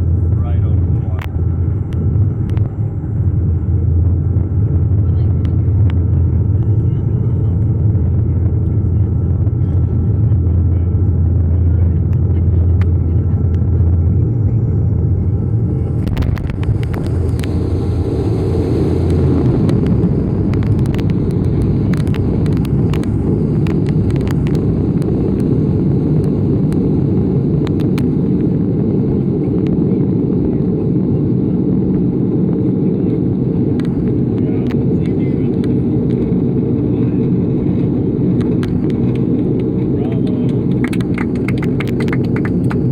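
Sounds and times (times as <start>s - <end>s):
aircraft engines droning: 0.0s - 42.9s
low hum: 0.0s - 42.9s.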